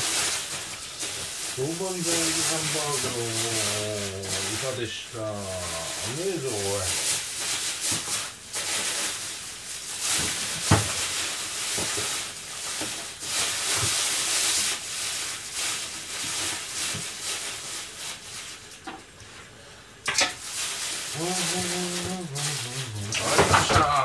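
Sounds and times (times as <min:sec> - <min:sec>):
food sizzling: 0:00.0 - 0:19.2, 0:20.0 - 0:24.0.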